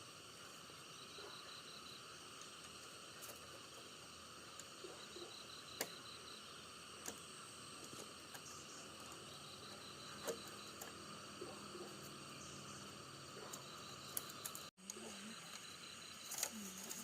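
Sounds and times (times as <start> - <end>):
insect chorus drone: 0.0 - 17.0
pulsed insect trill: 0.0 - 17.0.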